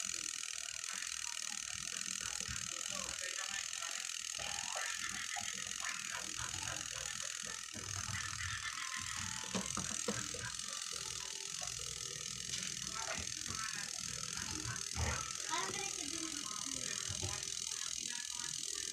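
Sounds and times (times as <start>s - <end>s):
mechanism clicking and ratcheting: 0.0s - 18.9s.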